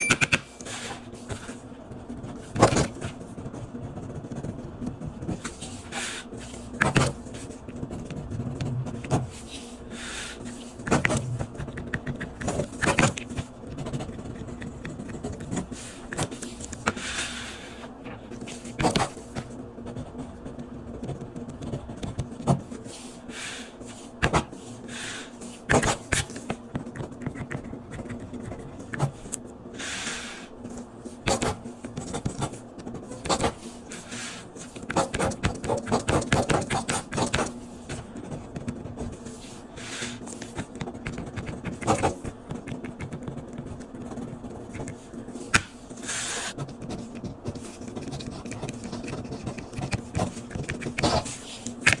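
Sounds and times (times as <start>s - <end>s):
steady low hum: 0.0s - 52.0s
pen scratching on paper: 0.7s - 17.7s, 18.3s - 29.3s, 30.6s - 52.0s.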